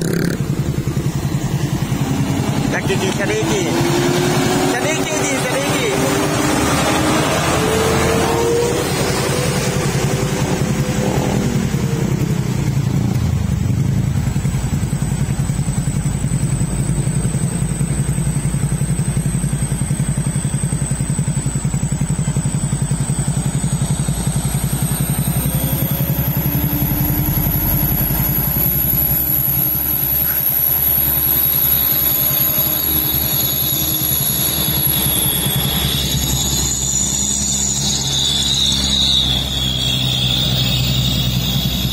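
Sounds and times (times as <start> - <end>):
diesel truck engines: 0.0 - 41.9.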